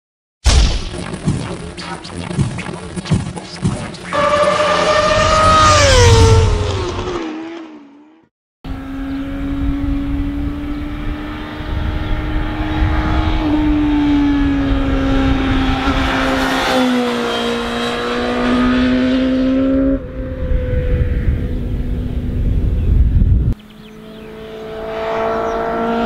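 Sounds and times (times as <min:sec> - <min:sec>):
motorcycle engine cruising: 0:02.4 - 0:26.0.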